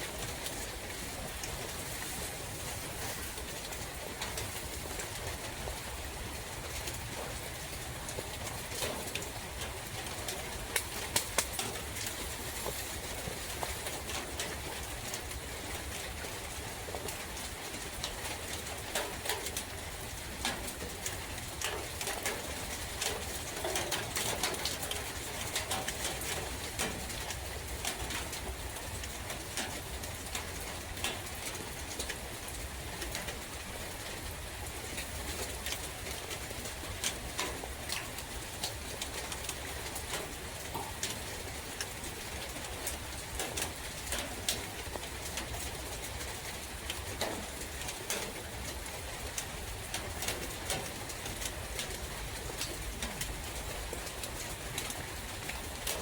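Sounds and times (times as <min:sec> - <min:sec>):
steady rain in forest: 0:00.0 - 0:56.0
sharp drip ticks: 0:03.3 - 0:56.0.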